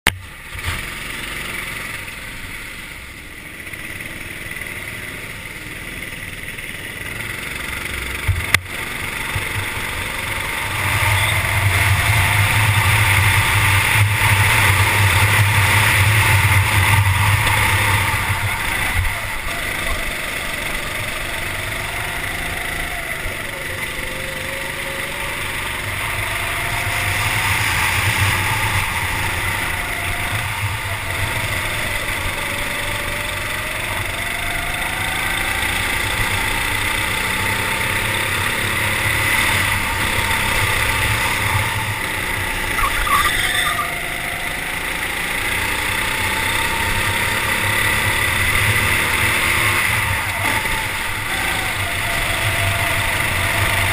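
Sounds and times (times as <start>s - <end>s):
go-kart engine revving: 0.1s - 53.9s.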